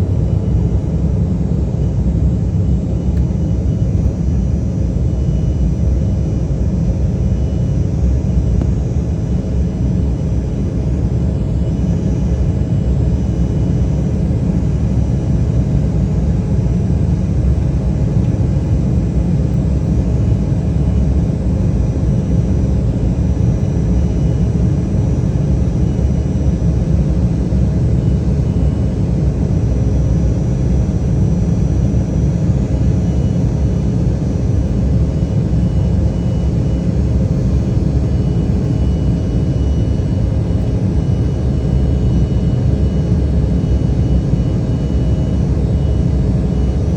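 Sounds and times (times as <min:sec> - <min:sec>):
jet engines rumbling and whining: 0:00.0 - 0:46.9.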